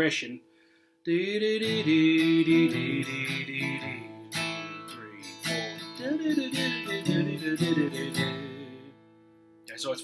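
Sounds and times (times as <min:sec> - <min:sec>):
acoustic guitar flatpicked: 0:01.1 - 0:09.7.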